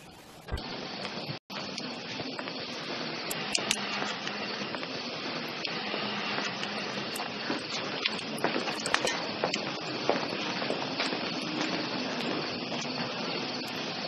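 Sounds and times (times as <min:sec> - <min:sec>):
faint clicks and crackles: 0:00.0 - 0:14.0
steady hiss: 0:00.0 - 0:14.0.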